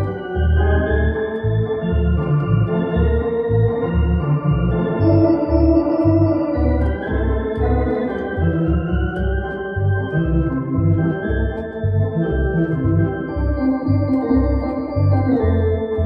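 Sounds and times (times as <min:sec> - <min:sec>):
drawbar organ playing a tune: 0:00.0 - 0:16.0.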